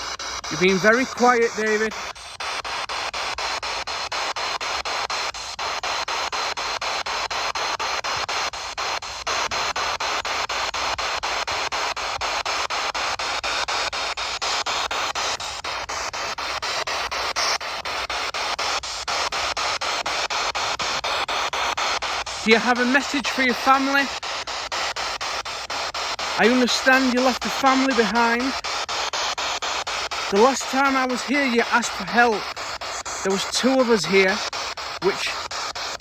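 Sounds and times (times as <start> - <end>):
radio static hiss: 0.0 - 36.0
rapid even clicks: 0.0 - 36.0.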